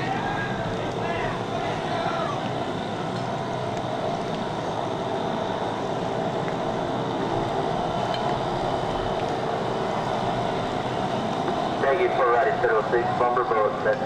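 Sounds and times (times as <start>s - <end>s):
bumper boat motors droning: 0.0s - 14.0s.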